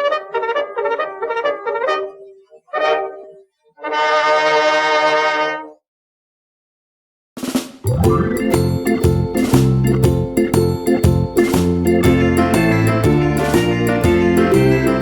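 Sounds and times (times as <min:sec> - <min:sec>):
brass music: 0:00.0 - 0:05.7, 0:07.8 - 0:15.0.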